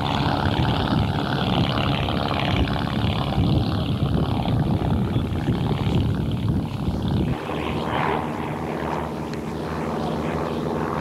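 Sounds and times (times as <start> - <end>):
distant model airplane engines: 0.0 - 11.0.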